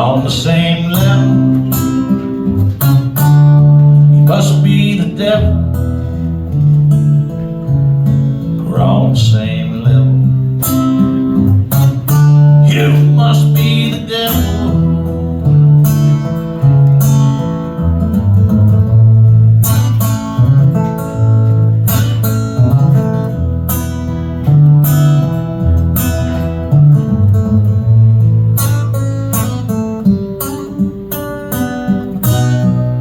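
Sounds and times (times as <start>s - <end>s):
bass line: 0.0s - 29.7s
acoustic guitar strumming chords: 0.0s - 33.0s.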